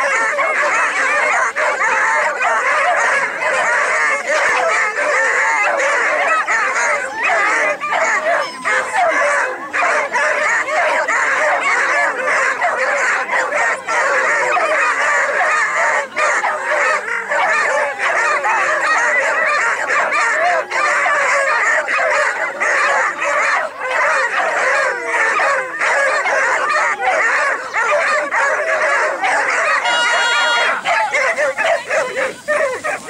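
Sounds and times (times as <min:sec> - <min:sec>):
hounds baying and yelping: 0:00.0 - 0:33.0.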